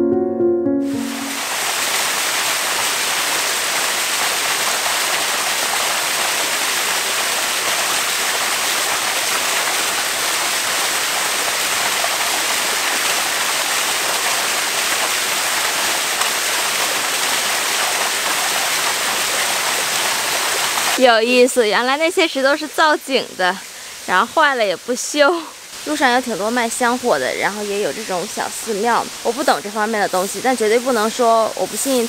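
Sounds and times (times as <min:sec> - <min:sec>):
small waterfall rushing: 0:01.1 - 0:32.0.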